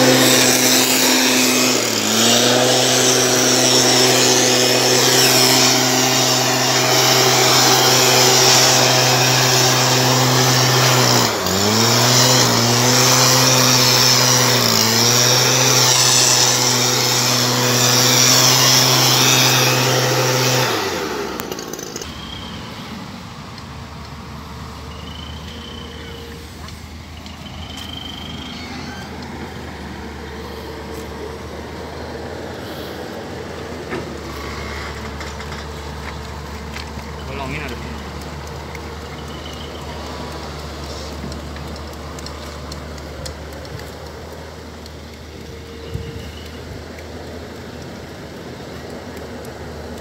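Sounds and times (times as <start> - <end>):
backpack blower engine running: 0.0 - 22.1, 27.0 - 50.0.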